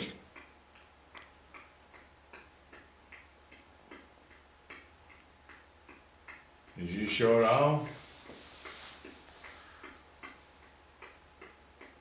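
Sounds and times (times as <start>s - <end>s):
faint regular ticking: 0.3s - 12.0s.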